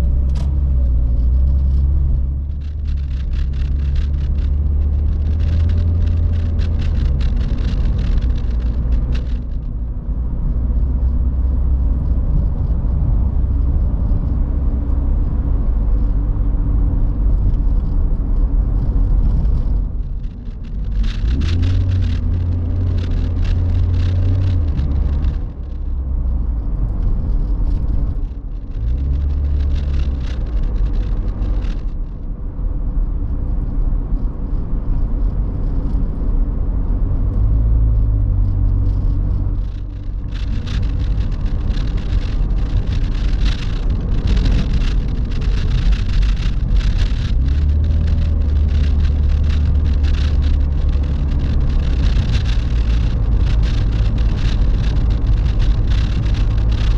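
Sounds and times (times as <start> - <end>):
car engine droning: 0.0 - 56.9.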